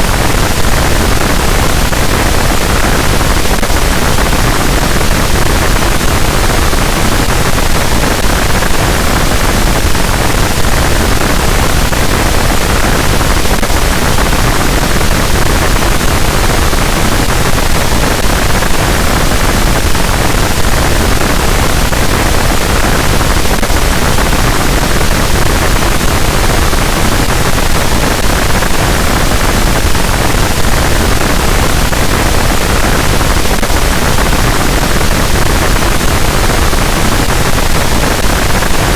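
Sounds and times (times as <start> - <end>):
dense static noise wall: 0.0 - 38.9.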